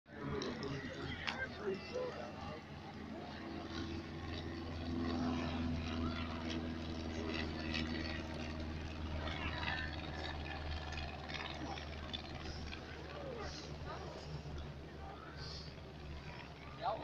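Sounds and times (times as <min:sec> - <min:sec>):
plane piston engine droning: 0:00.1 - 0:17.0
spectators' voices: 0:00.1 - 0:17.0.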